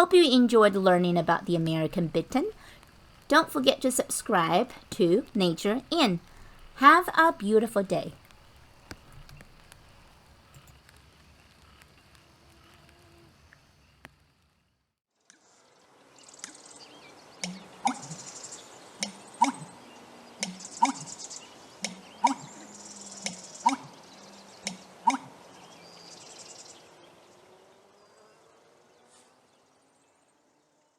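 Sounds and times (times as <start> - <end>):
buzzing insects: 0.0 - 14.5, 15.2 - 30.9.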